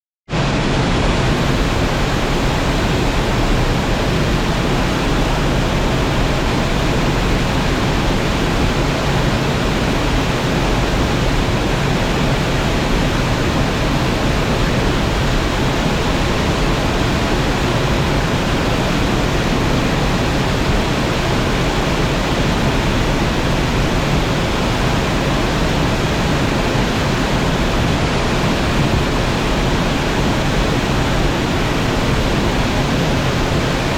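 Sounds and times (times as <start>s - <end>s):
waterfall crashing into pool: 0.4s - 33.9s.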